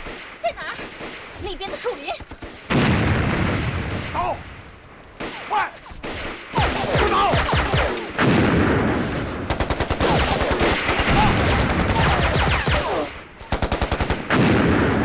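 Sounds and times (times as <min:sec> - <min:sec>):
machine-gun fire: 0:00.0 - 0:04.6, 0:05.2 - 0:15.0
single gunshots: 0:00.0 - 0:04.6, 0:05.2 - 0:15.0.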